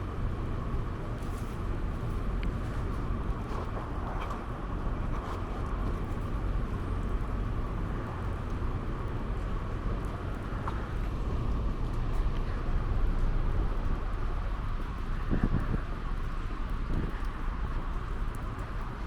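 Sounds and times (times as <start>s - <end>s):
city street rumble and hiss: 0.0s - 19.0s.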